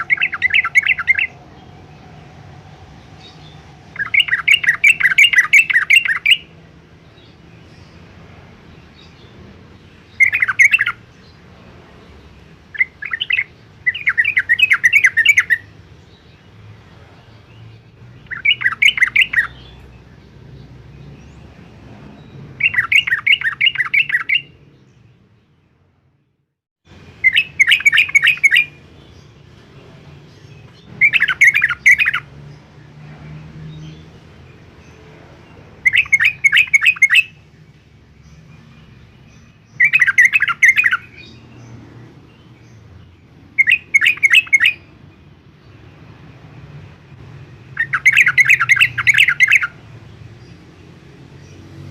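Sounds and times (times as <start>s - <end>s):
bulbul singing: 0.0s - 25.7s, 26.9s - 51.9s.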